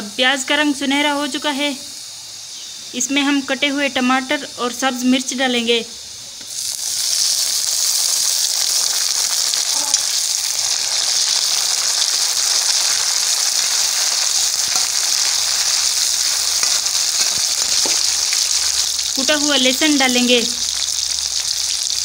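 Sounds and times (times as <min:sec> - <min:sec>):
vegetables sizzling in fat: 0:00.0 - 0:22.0.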